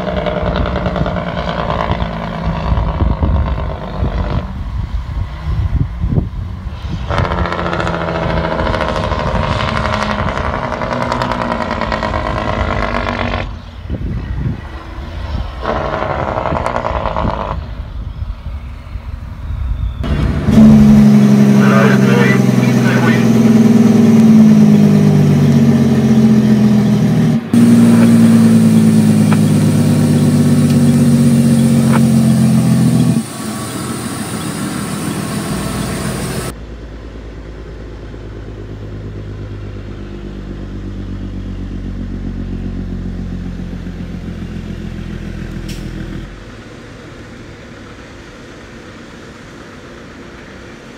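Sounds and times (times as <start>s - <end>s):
distant truck rumble: 0.0s - 50.9s.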